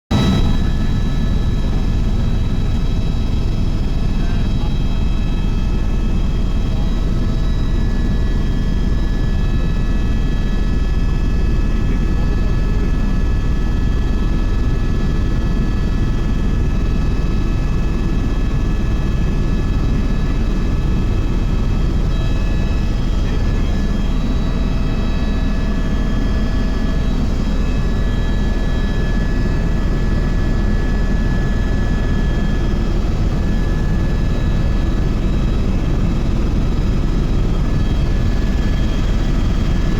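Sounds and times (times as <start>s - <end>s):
helicopter rotor and engine drone: 0.1s - 39.9s.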